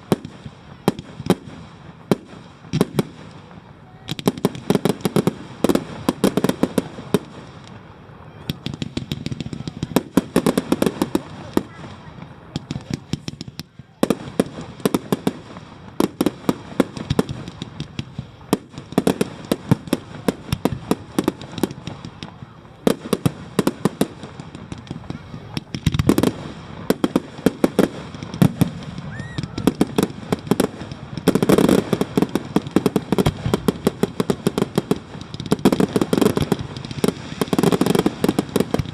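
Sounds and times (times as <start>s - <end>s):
deep firework bursts: 0.0s - 38.9s
fireworks crackling and banging: 0.0s - 38.9s.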